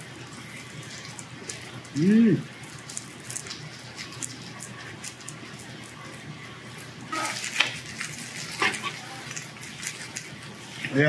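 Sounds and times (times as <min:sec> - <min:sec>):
pork sizzling on grill plate: 0:00.0 - 0:11.0.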